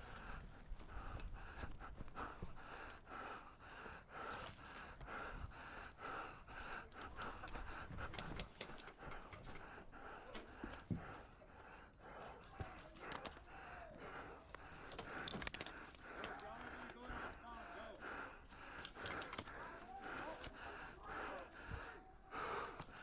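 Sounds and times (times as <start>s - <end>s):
person panting heavily: 0.0s - 23.0s.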